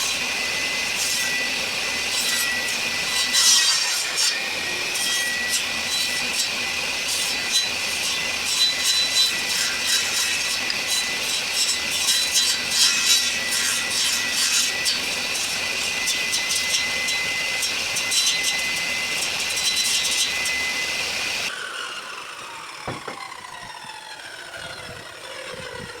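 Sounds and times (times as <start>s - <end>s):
power saw cutting wood: 0.0s - 26.0s
saw motor coasting down: 0.0s - 26.0s.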